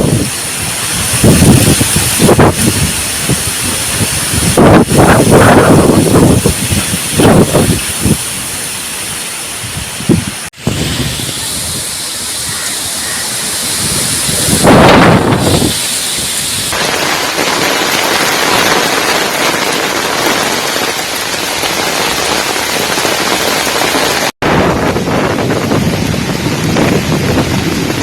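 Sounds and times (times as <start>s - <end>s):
gusty wind: 0.0s - 28.0s
rain: 0.0s - 28.0s.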